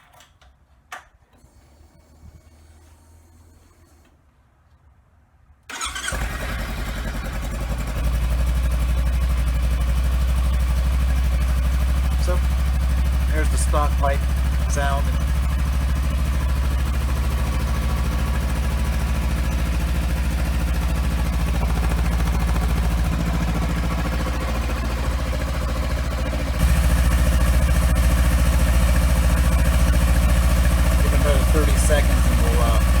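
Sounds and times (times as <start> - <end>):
motorcycle engine idling: 5.7 - 33.0.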